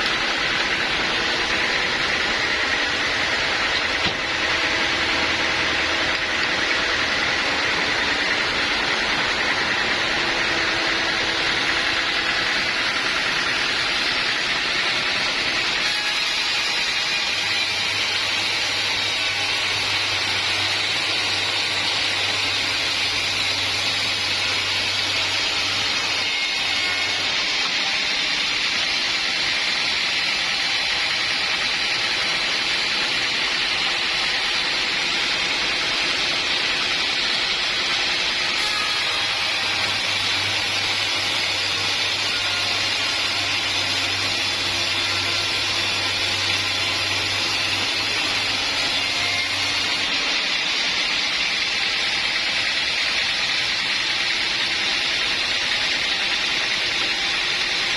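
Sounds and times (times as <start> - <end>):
sawmill saw running: 0.0 - 57.9.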